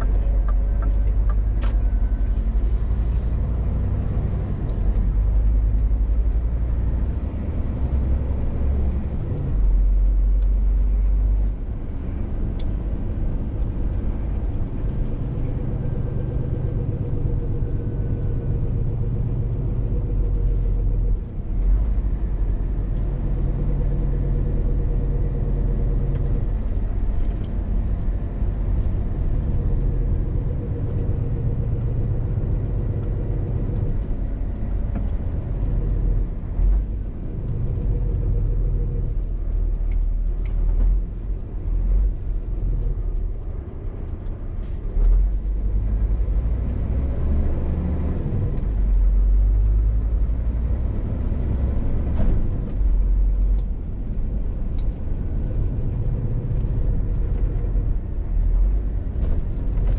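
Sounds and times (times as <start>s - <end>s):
lorry diesel engine rumble: 0.0s - 59.9s
road noise: 0.0s - 59.9s.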